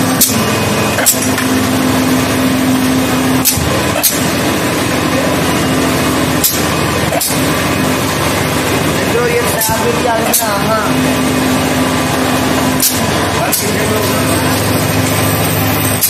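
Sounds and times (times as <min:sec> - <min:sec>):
press machine motor hum: 0:00.0 - 0:16.0.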